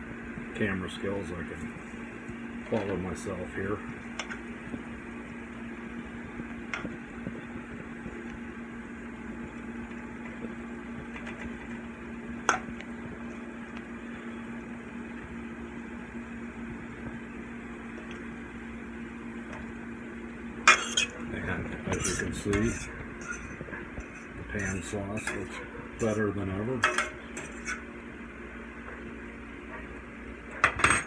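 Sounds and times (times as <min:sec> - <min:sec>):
appliance fan humming: 0:00.0 - 0:31.0.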